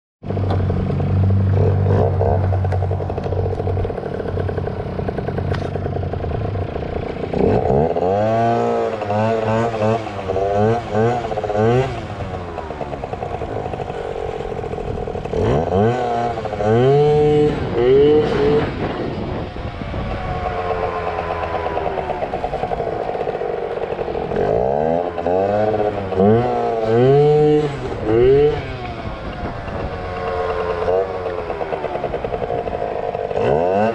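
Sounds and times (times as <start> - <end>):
scooter engine revving: 0.2 - 33.9.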